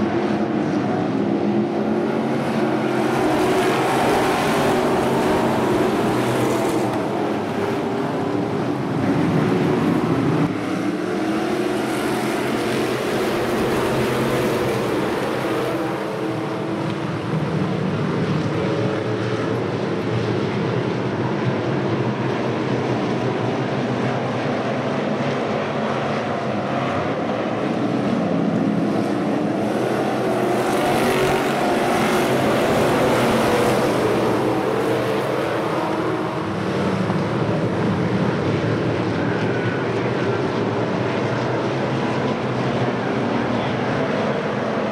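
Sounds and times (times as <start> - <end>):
race car engines: 0.0 - 44.9.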